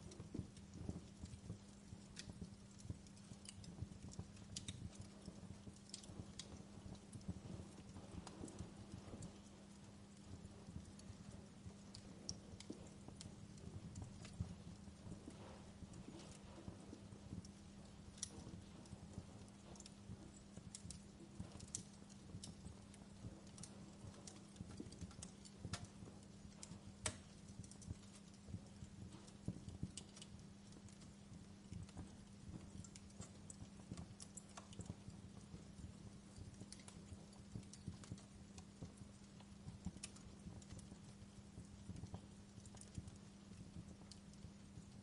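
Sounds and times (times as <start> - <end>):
low steady hum: 0.0 - 45.0
wood fire crackling: 0.0 - 45.0.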